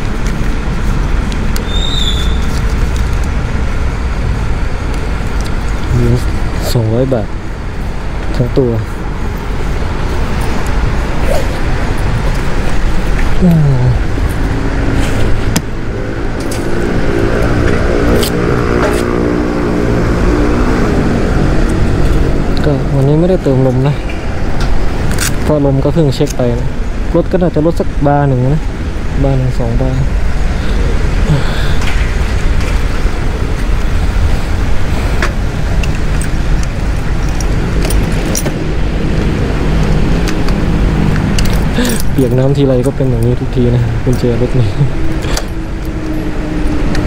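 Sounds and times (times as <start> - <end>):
road noise: 0.0 - 47.0.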